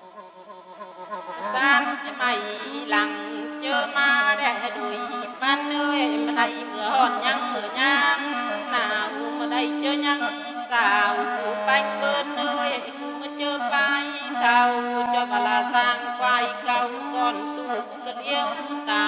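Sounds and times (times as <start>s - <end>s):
woman singing folk song: 1.3s - 19.0s.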